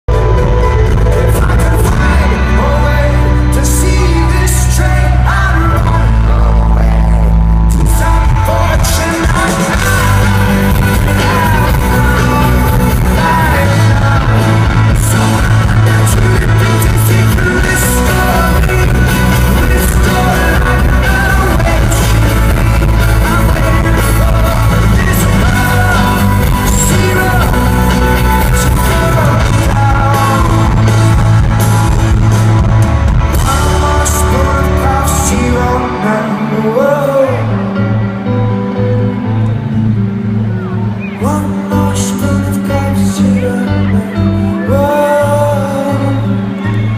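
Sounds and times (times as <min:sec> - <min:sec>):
lead vocal singing: 0:00.1 - 0:46.9
rock band playing live: 0:00.1 - 0:46.9.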